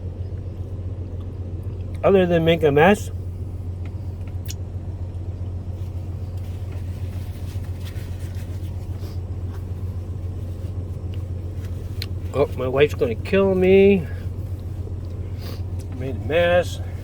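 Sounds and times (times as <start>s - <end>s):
low background hum and rumble: 0.0s - 17.0s.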